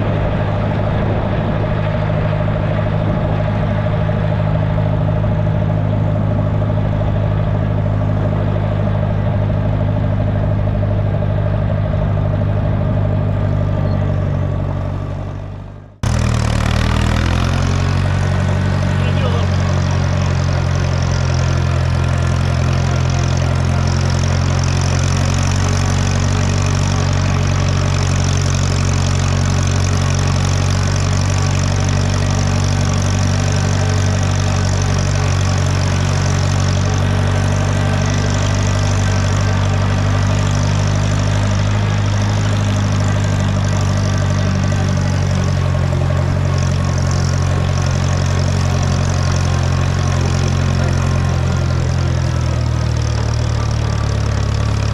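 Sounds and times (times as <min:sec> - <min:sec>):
road grader engine running: 0:00.0 - 0:54.9.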